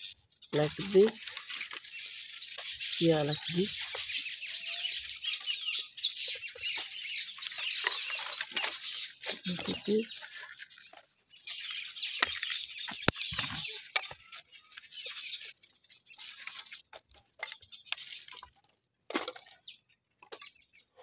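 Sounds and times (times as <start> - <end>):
dry twigs rustling and scraping: 0.0 - 21.0.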